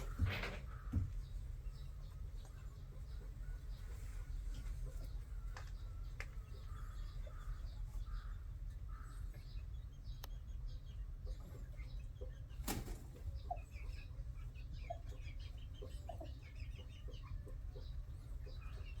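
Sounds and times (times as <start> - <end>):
birds clucking and chirping: 0.0 - 19.0.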